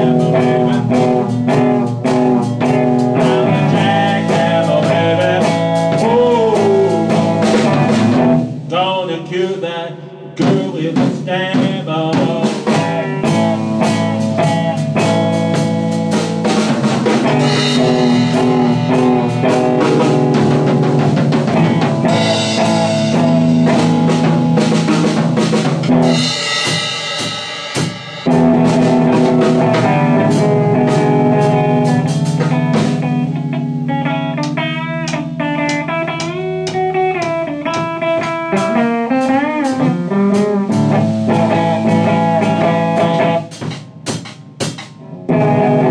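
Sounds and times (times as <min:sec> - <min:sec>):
drum beat: 0:00.0 - 0:09.0, 0:10.3 - 0:45.9
electric guitar playing blues: 0:00.0 - 0:27.3, 0:28.2 - 0:45.9.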